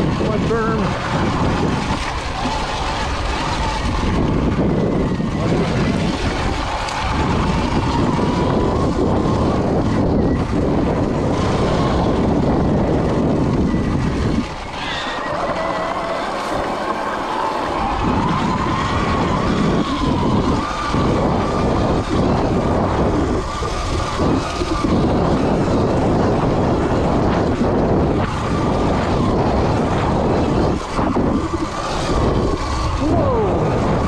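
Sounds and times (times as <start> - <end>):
electric motor whine: 0.0 - 34.0
low rumble: 0.0 - 34.0
riding and wind noise: 0.0 - 34.0.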